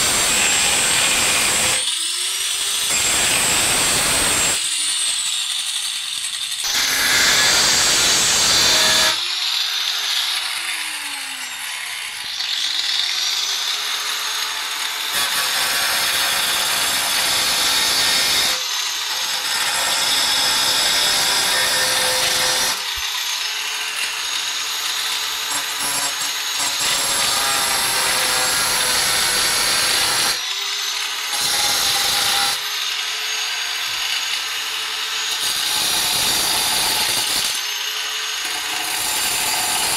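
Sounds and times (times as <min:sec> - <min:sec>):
electric power tool whining: 0:00.0 - 0:39.9.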